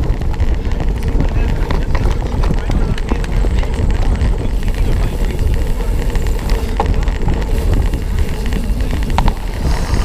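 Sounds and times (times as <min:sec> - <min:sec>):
bike rumbling and rattling on grass: 0:00.0 - 0:10.0
wind buffeting microphone: 0:00.0 - 0:10.0.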